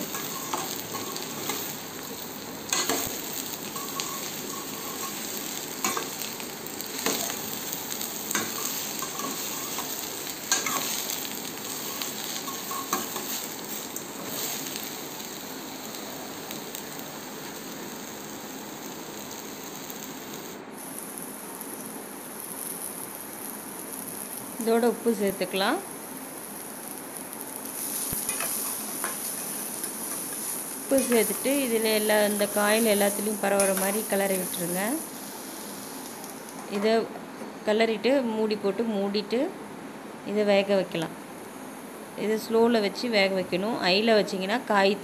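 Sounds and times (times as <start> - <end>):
vegetables sizzling in oil: 0.0 - 39.4.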